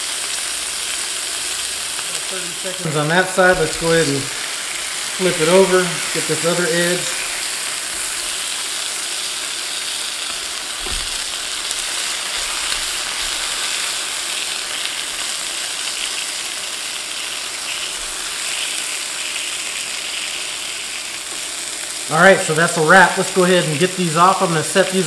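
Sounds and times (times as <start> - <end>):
steaks sizzling in butter: 0.0 - 25.0.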